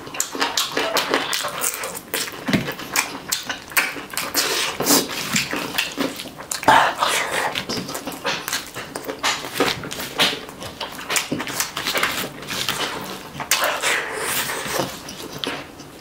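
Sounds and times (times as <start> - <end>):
wet chewing and lip-smacking: 0.0 - 16.0.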